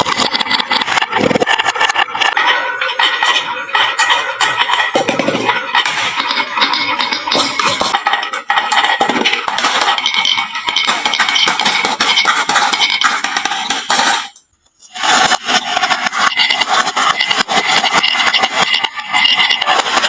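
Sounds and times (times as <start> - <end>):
marbles rolling down wooden slope: 0.0 - 14.4, 15.0 - 20.0.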